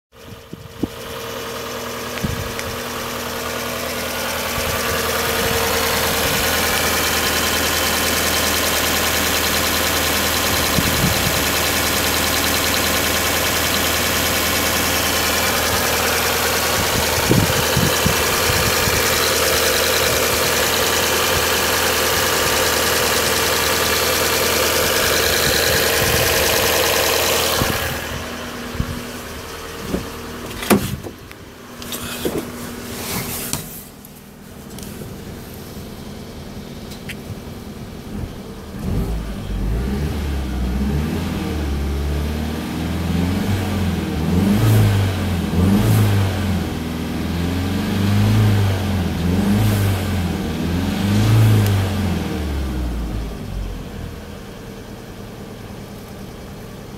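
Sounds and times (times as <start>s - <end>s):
car engine idling: 0.1s - 56.9s.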